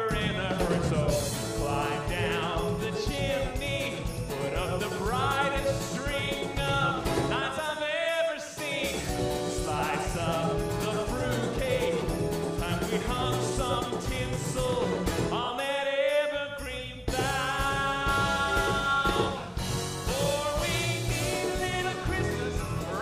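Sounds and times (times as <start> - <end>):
live rock band playing: 0.0 - 7.5, 8.6 - 15.4, 17.1 - 23.0
man singing: 0.0 - 23.0.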